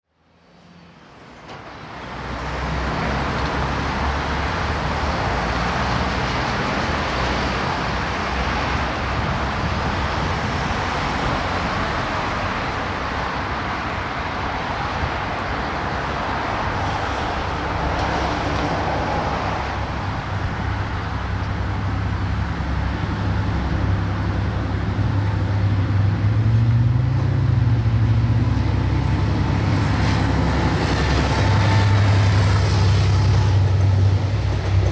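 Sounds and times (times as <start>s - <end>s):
diesel locomotive engine hum: 0.2s - 34.9s.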